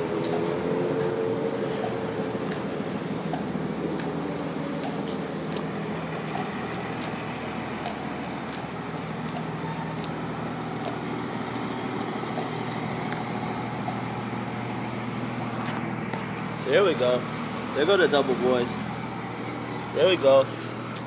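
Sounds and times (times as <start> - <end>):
traffic and machinery hum: 0.0 - 21.0.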